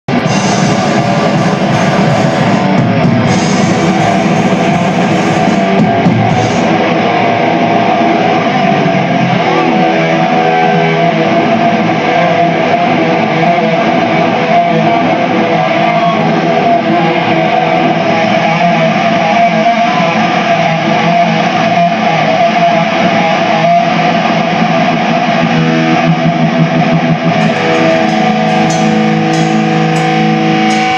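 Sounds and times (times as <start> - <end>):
distorted electric guitar: 0.0 - 30.9.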